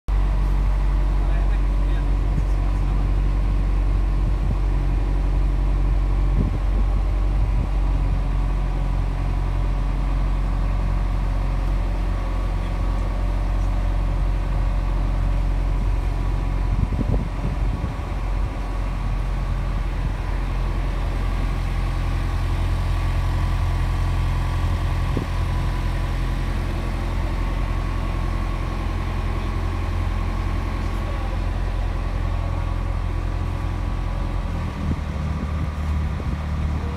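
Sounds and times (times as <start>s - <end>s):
boat engine droning: 0.1s - 36.9s.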